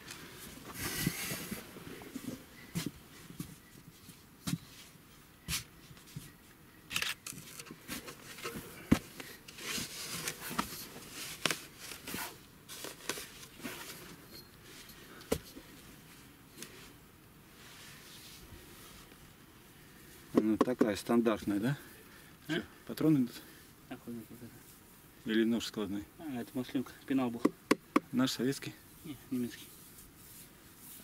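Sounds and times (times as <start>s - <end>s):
rustling and scraping in soil: 0.0s - 22.2s, 28.0s - 31.0s.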